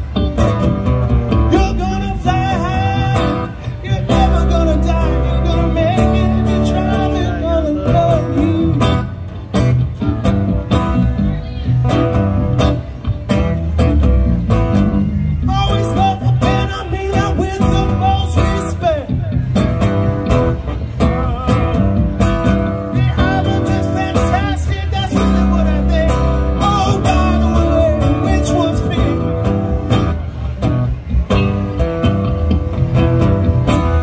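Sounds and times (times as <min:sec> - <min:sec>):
two guitars jamming blues: 0:00.0 - 0:34.0.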